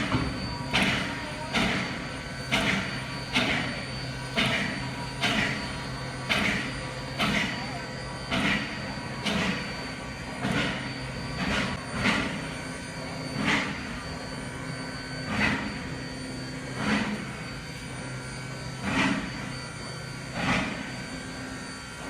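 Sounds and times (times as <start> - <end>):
rail car humming on track: 0.0 - 22.0.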